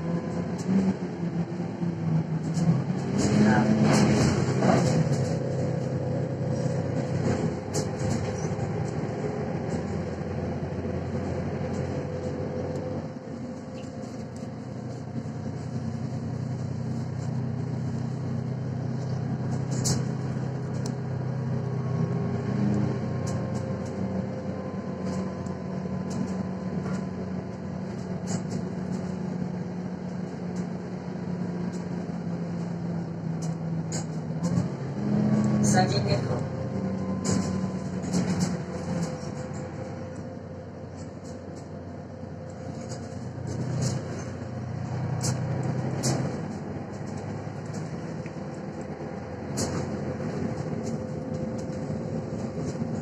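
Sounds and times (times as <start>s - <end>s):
bus diesel engine droning: 0.0s - 53.0s
clicks and rattles of bus body: 0.0s - 53.0s.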